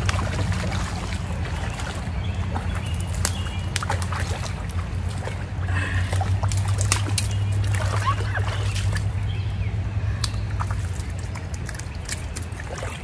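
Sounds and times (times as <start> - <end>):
fish thrashing in water: 0.0 - 13.0
person wading through water: 0.0 - 13.0.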